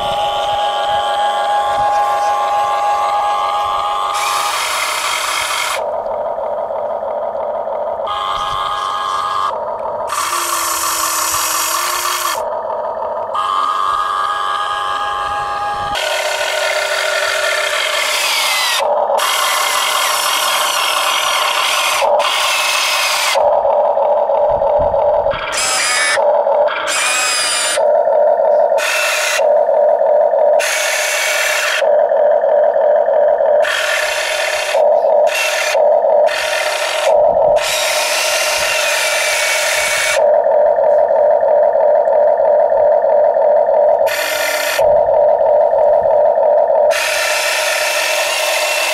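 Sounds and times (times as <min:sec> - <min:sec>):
electric motors whining: 0:00.0 - 0:48.9
steady hum: 0:00.0 - 0:48.9.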